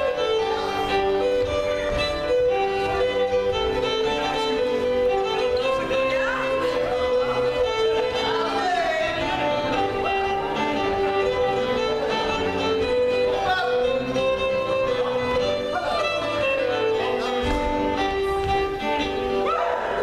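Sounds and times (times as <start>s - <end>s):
fiddle playing dance tune: 0.0s - 19.8s
keyboard accompaniment: 0.0s - 20.0s.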